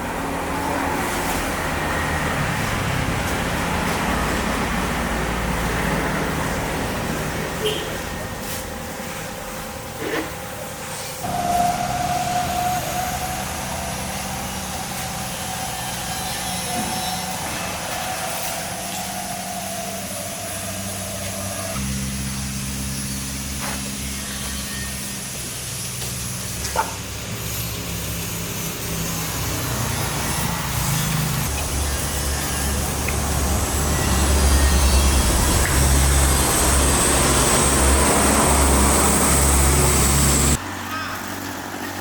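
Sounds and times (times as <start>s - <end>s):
high whine: 0.0s - 41.0s
truck engine running: 0.0s - 42.0s.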